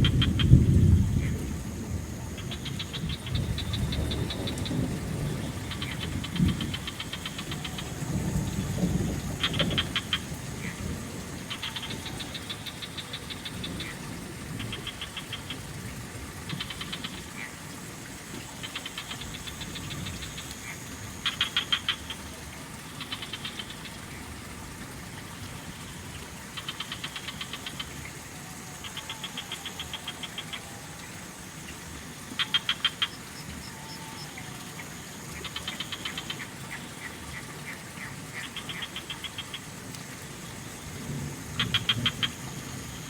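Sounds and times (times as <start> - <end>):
high insect drone: 0.0 - 37.4, 38.0 - 43.0
frogs calling in pulsed trills: 0.0 - 43.0
trickling water: 0.0 - 43.0.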